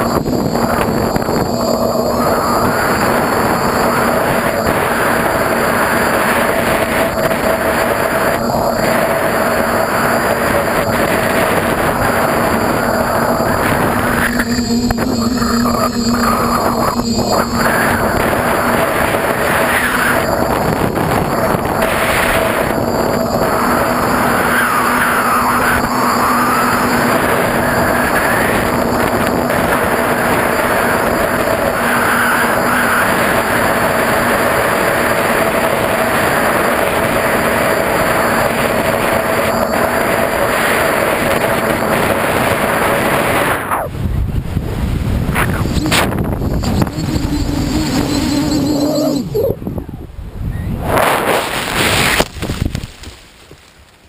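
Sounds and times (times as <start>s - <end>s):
quadcopter motors humming: 0.0s - 44.2s, 45.0s - 50.1s
drone propellers whining: 0.0s - 52.3s
wind rushing on microphone: 0.0s - 53.8s.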